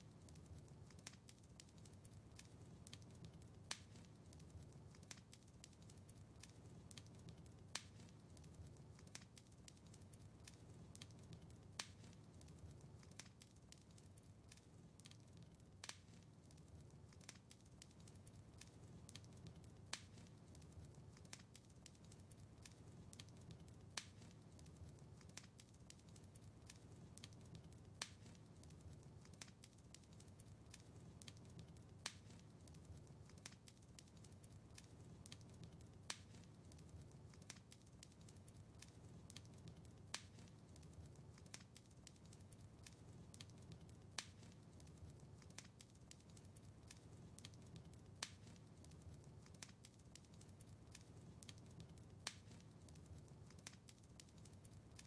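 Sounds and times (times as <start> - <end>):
fire crackles and pops: 0.0 - 55.0
low rumble of burning fire: 0.0 - 55.0.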